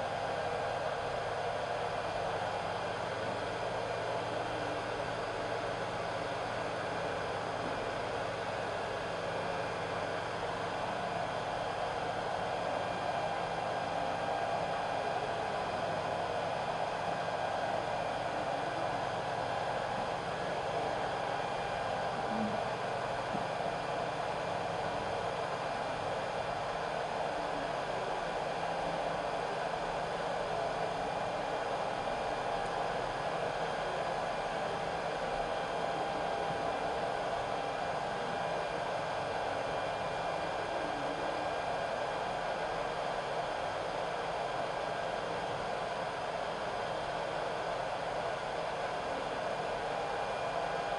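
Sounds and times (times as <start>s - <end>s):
faint steady tones: 0.0s - 50.9s
hot-air blower hissing: 0.0s - 50.9s.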